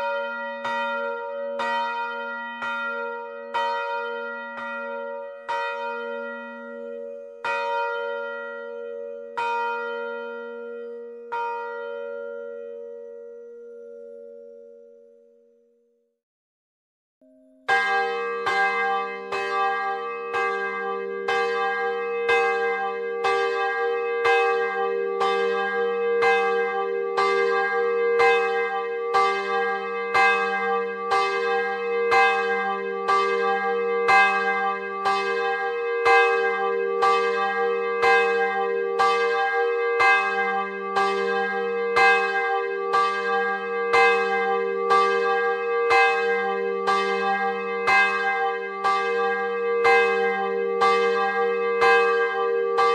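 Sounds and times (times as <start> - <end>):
church bell ringing: 0.0 - 15.5, 17.2 - 52.9.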